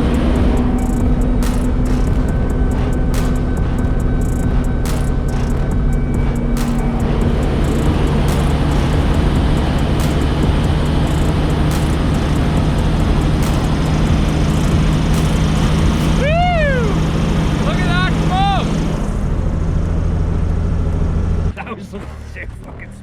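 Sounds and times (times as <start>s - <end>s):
diesel truck engine running: 0.0s - 21.9s.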